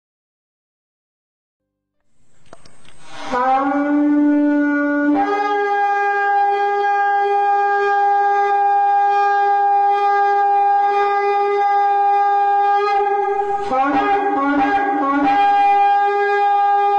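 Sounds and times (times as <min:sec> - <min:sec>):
long horn blast: 0:02.8 - 0:16.9.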